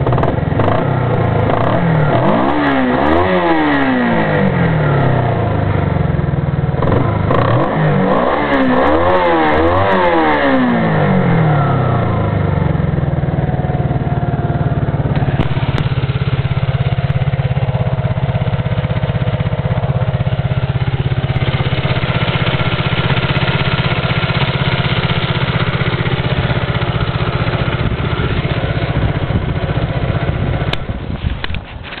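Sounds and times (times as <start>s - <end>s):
motorcycle engine revving and idling: 0.0s - 32.0s.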